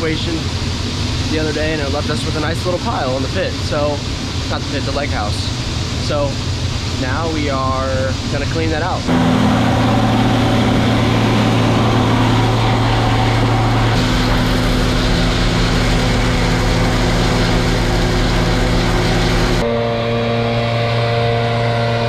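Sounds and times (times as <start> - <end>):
grain-handling machinery humming: 0.0 - 22.0.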